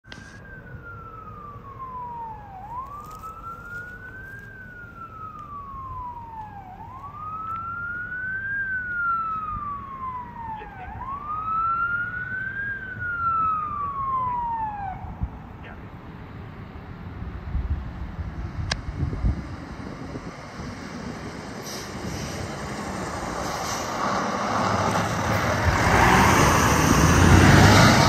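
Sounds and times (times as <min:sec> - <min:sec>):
fire engine siren wailing: 0:00.0 - 0:17.1, 0:18.4 - 0:28.0
truck engine rumble: 0:00.0 - 0:28.0.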